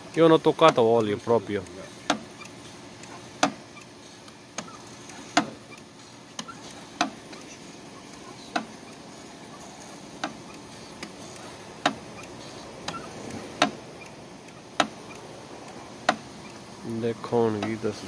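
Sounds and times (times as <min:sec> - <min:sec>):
clutch pedal clacking: 0:00.0 - 0:18.0.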